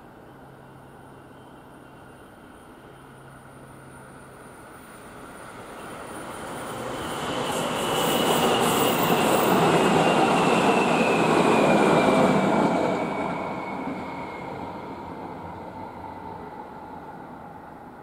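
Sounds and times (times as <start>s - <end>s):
train wheels on rails: 2.4s - 17.9s.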